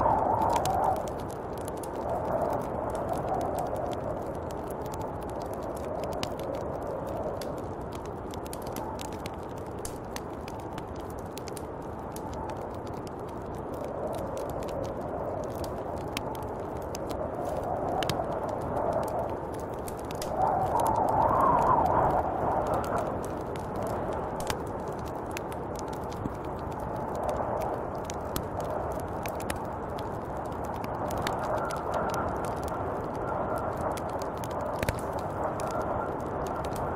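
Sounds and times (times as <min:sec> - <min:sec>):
faint crackles and ticks: 0:00.0 - 0:36.9
wind blowing in gusts: 0:00.0 - 0:36.9.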